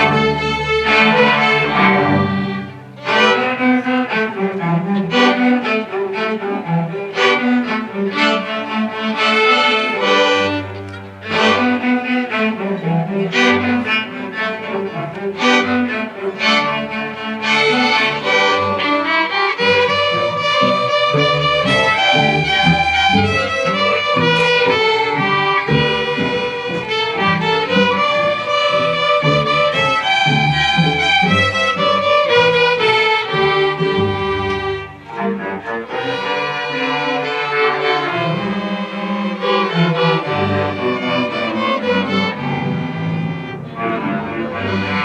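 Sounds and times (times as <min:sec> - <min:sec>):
string orchestra playing: 0:00.0 - 0:45.0.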